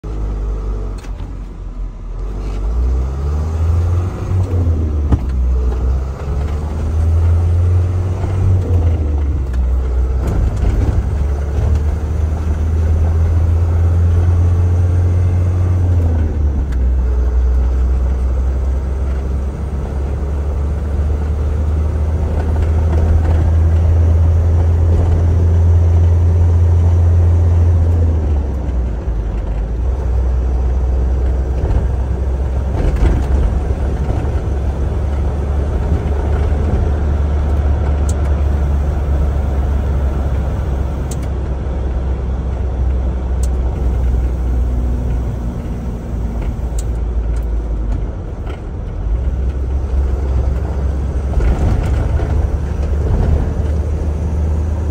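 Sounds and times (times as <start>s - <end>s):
diesel truck engine accelerating: 0.0s - 54.9s.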